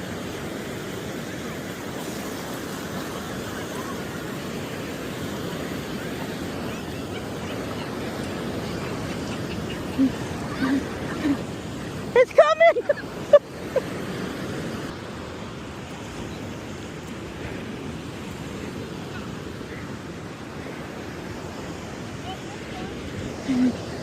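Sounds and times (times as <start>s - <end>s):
ocean surf washing onto beach: 0.0s - 24.0s.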